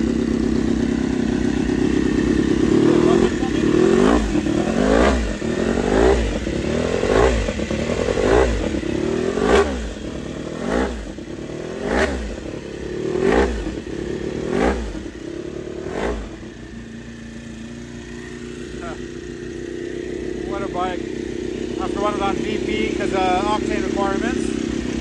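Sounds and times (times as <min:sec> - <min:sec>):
engine idling: 0:00.0 - 0:25.0
motorcycle engine revving: 0:00.0 - 0:25.0.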